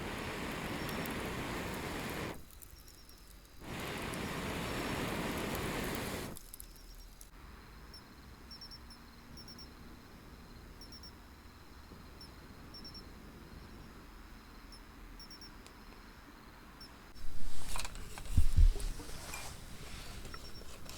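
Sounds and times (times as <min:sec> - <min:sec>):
crickets chirping faintly: 0:00.0 - 0:20.9
soft background hiss: 0:00.0 - 0:20.9.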